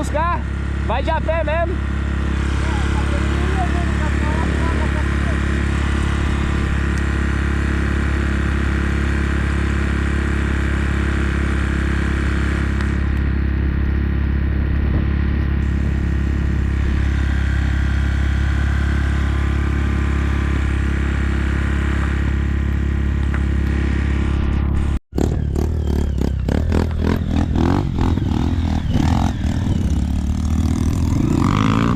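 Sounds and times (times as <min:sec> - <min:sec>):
motorcycle engine running steadily: 0:00.0 - 0:31.9.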